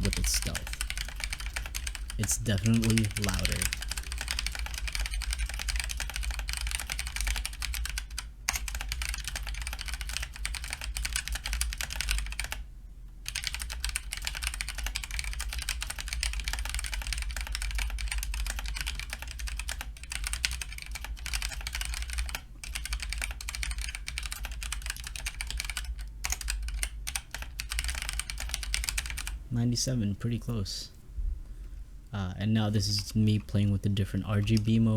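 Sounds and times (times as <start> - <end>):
fast typing on mechanical keyboard: 0.0 - 12.6, 13.2 - 29.4.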